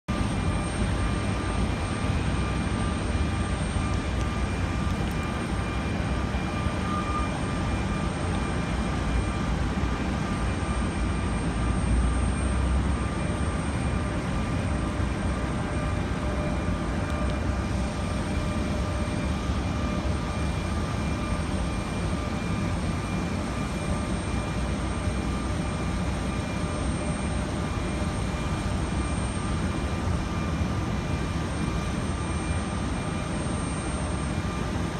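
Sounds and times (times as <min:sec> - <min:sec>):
airplane engines rumbling: 0:00.1 - 0:34.9
high engine whine: 0:00.1 - 0:34.9.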